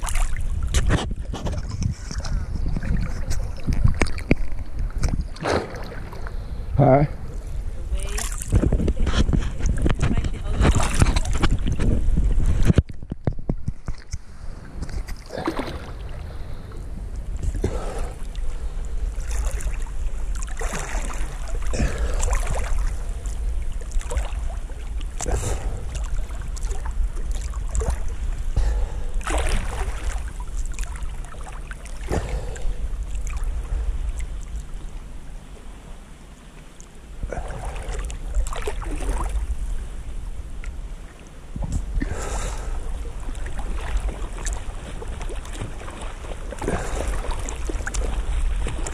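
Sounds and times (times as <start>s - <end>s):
low rumble of water and wind: 0.0s - 48.9s
water sloshing and splashing: 0.0s - 48.9s.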